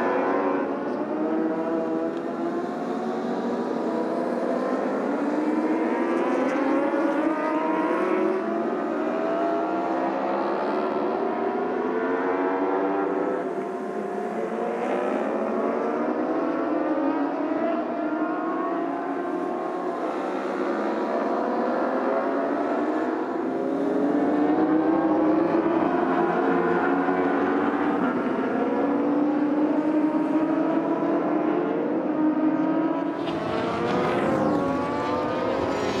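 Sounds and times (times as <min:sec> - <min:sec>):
racing motorcycle engines accelerating: 0:00.0 - 0:36.0.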